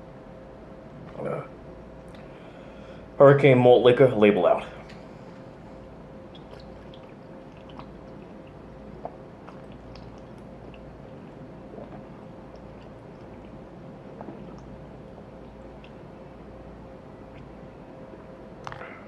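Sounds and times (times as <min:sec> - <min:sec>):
faint constant hum: 0:00.0 - 0:19.0.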